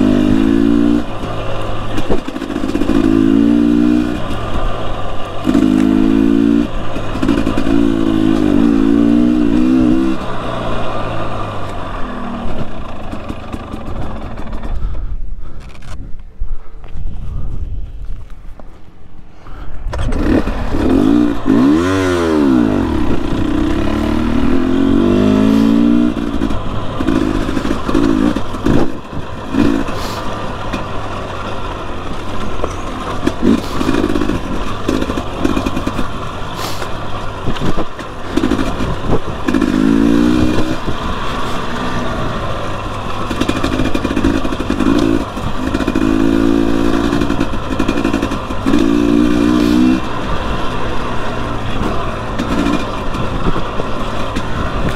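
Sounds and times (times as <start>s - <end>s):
dirt bike engine revving: 0.0s - 14.9s, 19.9s - 54.9s.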